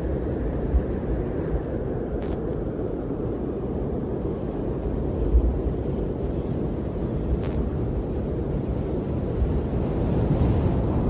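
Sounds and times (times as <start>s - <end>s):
strong wind blowing: 0.0s - 11.0s.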